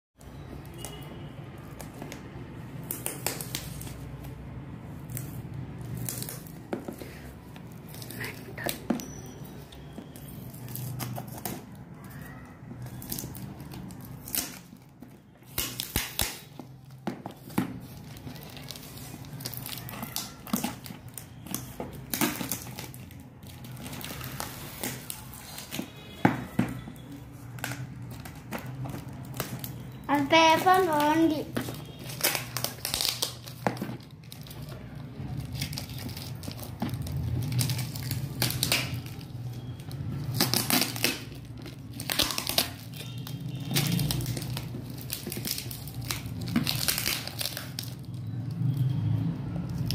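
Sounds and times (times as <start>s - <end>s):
paper crinkling: 0.7s - 48.2s
packing tape peeled and torn: 1.6s - 9.3s, 10.1s - 26.0s, 26.9s - 48.9s.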